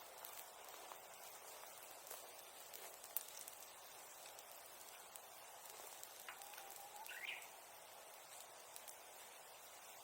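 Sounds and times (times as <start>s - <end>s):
bonfire crackles: 0.0s - 10.0s
faint outdoor hiss: 0.0s - 10.0s.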